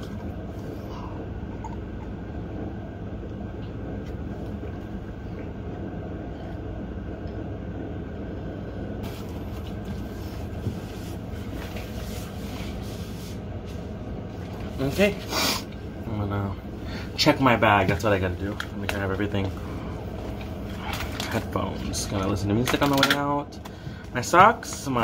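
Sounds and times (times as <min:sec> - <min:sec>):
low room rumble: 0:00.0 - 0:25.0.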